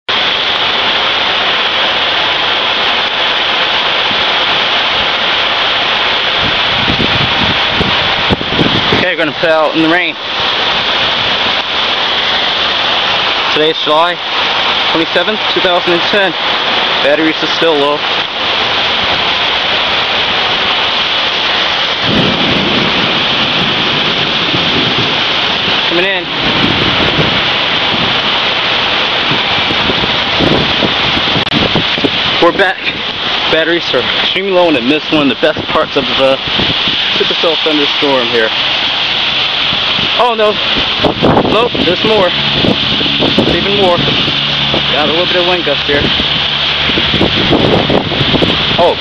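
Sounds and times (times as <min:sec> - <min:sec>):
heavy rain pouring: 0:00.0 - 0:49.0
deep continuous rumble: 0:00.1 - 0:49.0.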